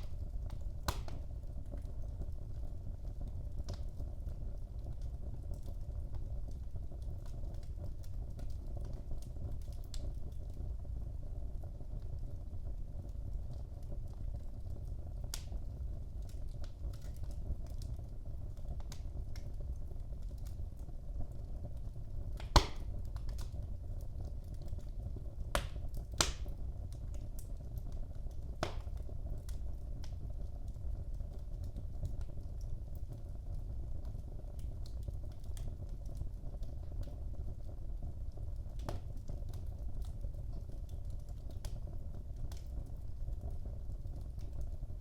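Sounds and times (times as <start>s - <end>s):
fire crackling and popping: 0.0s - 45.0s
fire flames rumbling: 0.0s - 45.0s.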